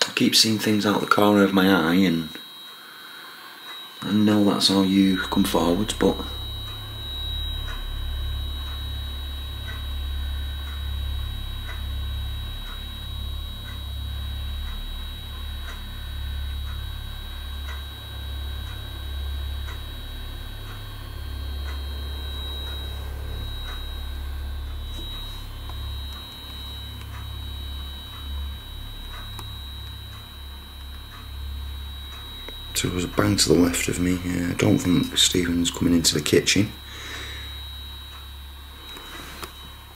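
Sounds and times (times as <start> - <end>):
low electrical hum: 0.0 - 39.9
thin high whine: 0.0 - 39.9
faint ticks: 3.6 - 4.1, 5.3 - 34.2, 34.8 - 39.9.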